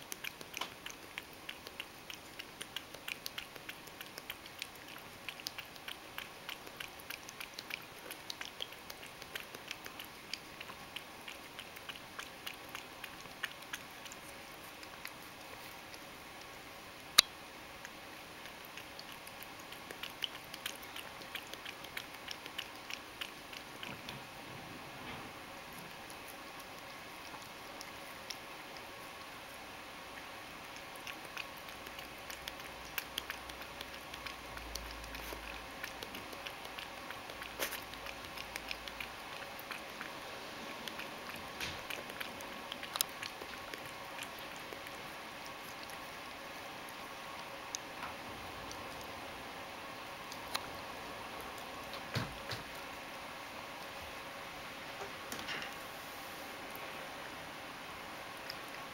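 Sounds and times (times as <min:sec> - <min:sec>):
cat lapping milk: 0:00.0 - 0:58.9.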